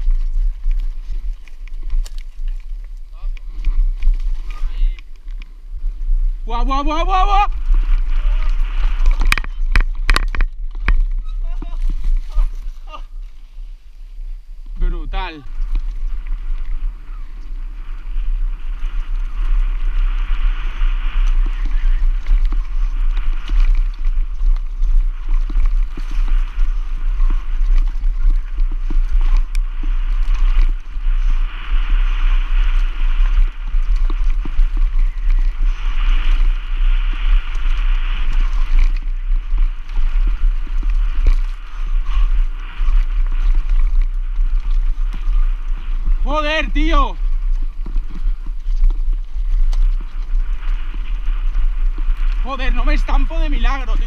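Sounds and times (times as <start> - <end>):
bike tyres rolling and rattling: 0.0 - 54.0
wind buffeting microphone: 0.0 - 54.0.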